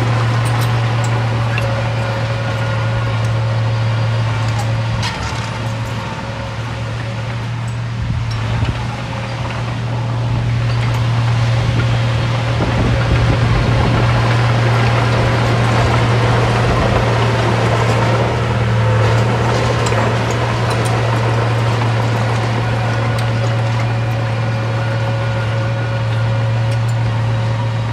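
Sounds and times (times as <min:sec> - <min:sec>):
heavy machinery diesel engine running: 0:00.0 - 0:27.9.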